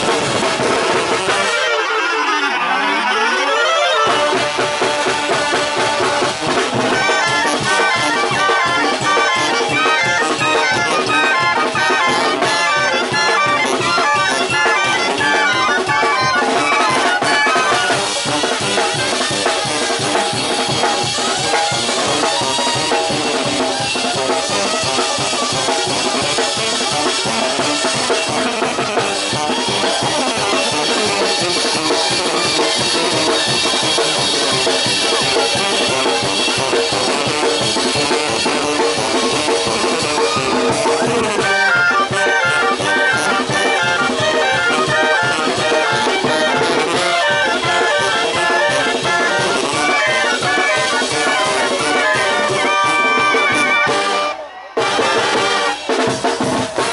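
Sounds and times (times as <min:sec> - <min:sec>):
steady drum beat: 0:00.0 - 0:01.6, 0:04.0 - 0:56.9
brass band playing: 0:00.0 - 0:56.9.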